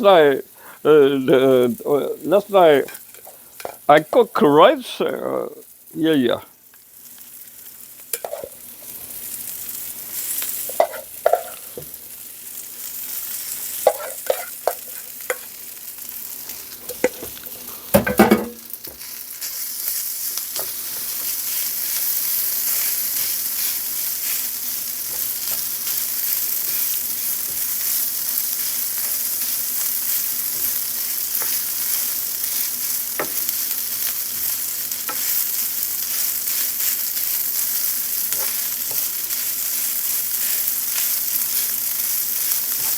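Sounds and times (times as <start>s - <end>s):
rice sizzling in a pan: 0.0s - 42.9s.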